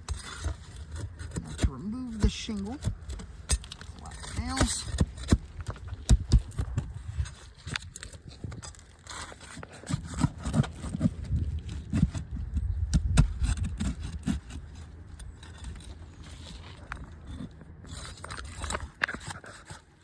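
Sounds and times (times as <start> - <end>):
hand tool scraping shingles: 0.0 - 20.0.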